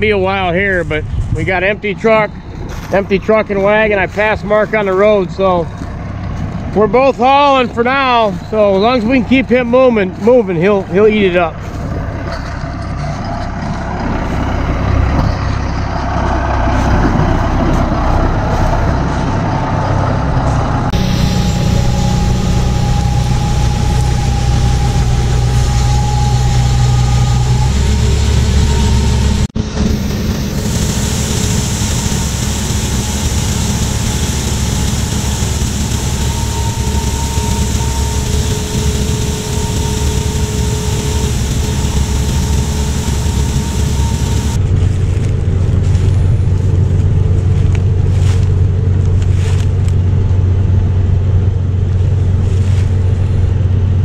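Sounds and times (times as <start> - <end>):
diesel engines running: 0.0 - 54.0
grain auger whine: 0.7 - 51.0.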